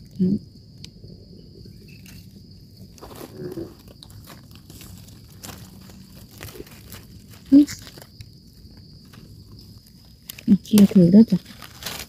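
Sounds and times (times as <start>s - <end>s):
dry leaves crunching: 2.0s - 12.0s.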